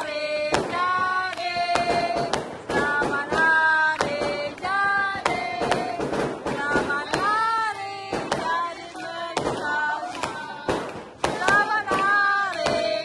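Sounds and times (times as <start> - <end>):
group singing: 0.0 - 13.0
hand claps: 0.0 - 13.0.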